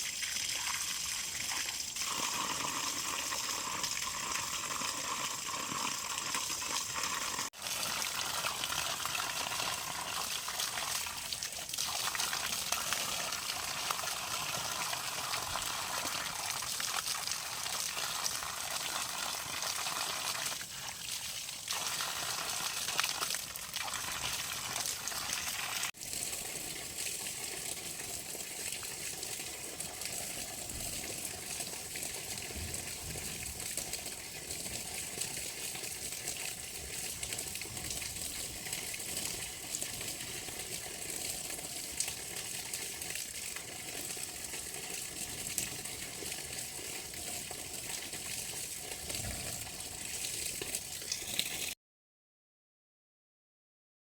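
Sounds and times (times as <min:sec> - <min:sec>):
running water rushing: 0:00.0 - 0:43.5.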